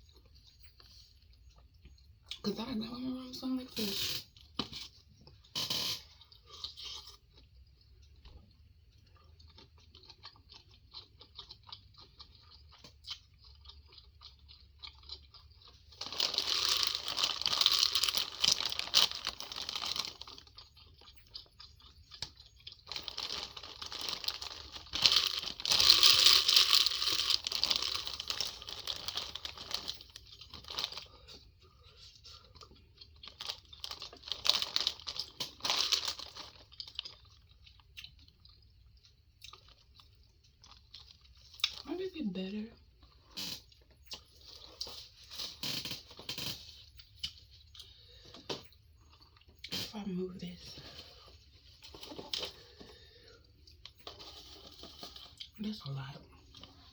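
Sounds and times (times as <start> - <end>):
tearing crinkling and crunching food: 0.1 - 42.1, 42.8 - 49.9, 50.5 - 56.9.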